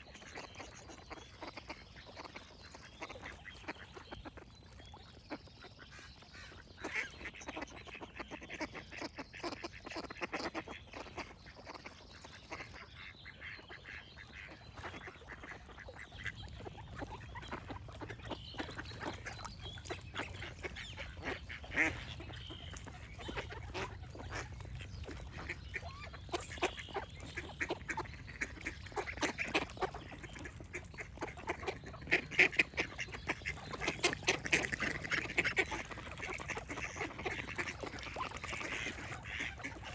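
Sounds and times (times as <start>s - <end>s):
faint birdsong: 0.0s - 39.9s
ducks quacking: 5.7s - 39.9s.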